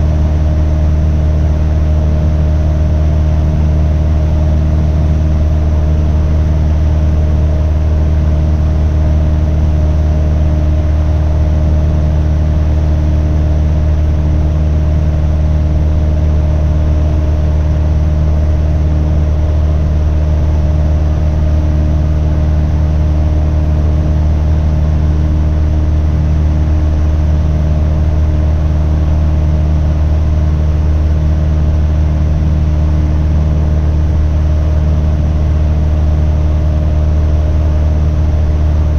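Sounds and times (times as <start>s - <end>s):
aircraft engine and propeller drone: 0.0s - 38.9s.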